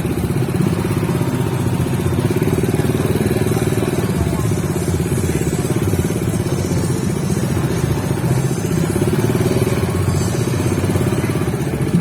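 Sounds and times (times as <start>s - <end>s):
motorcycle engine throbbing: 0.0s - 12.0s.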